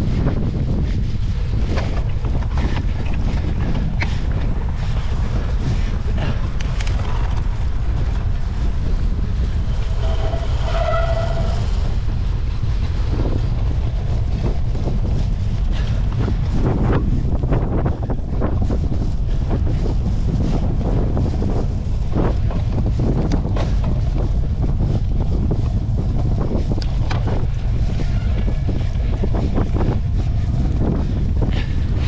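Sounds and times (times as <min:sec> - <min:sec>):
bike clicks and rattles: 0:00.0 - 0:32.0
wind rumble on microphone: 0:00.0 - 0:32.0.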